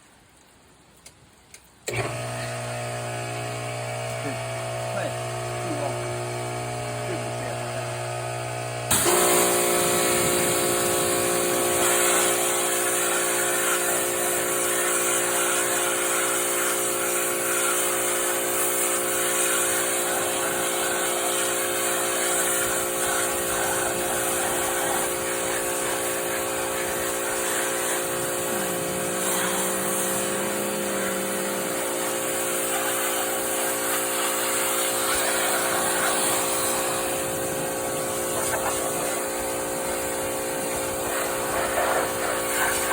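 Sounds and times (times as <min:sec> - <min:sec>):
pump motor hum: 0:01.8 - 0:42.9
pressure washer spray hissing: 0:01.9 - 0:42.9.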